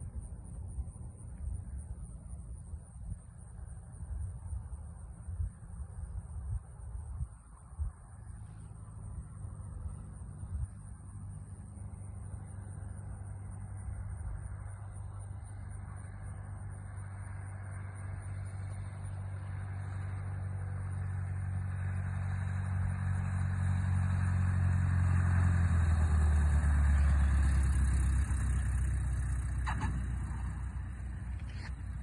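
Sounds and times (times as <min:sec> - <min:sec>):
light aircraft propeller engine: 0:00.0 - 0:32.0.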